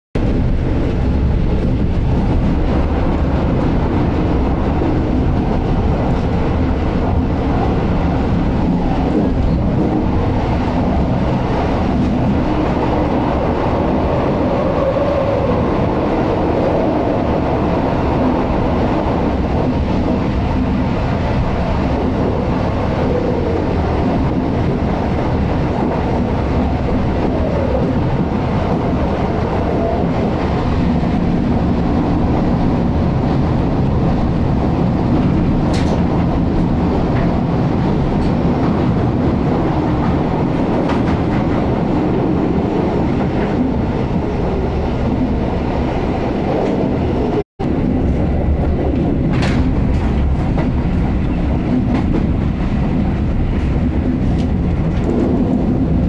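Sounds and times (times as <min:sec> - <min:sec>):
train wheels rumbling on rails: 0:00.2 - 0:56.0.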